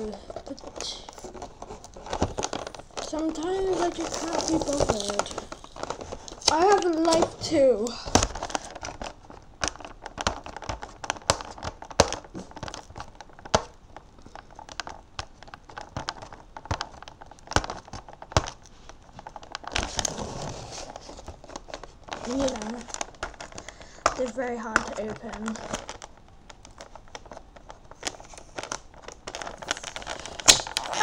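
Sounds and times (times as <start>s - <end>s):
plastic packaging crinkling: 0.0s - 31.0s.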